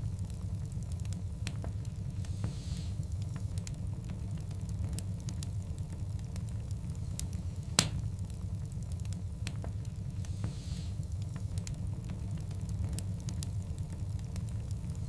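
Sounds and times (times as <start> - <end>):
log fire burning: 0.0 - 15.0.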